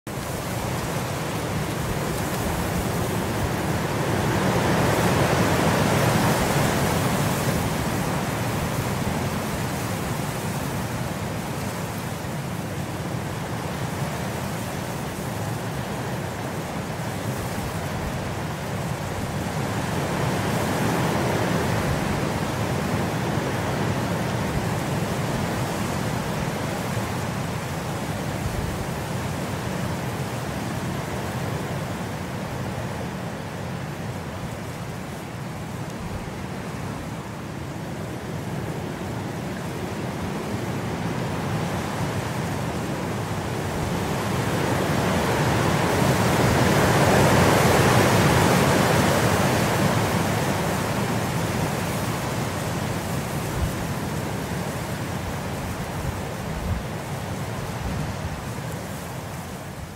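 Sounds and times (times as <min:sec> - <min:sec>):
steady rain: 0:00.1 - 0:59.9.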